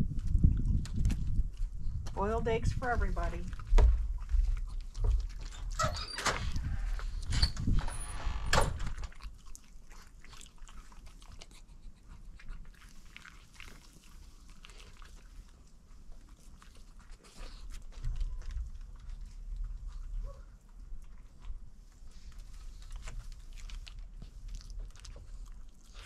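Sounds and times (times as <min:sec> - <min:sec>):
dog chewing and licking: 0:00.0 - 0:02.2, 0:02.9 - 0:07.8, 0:08.8 - 0:26.0.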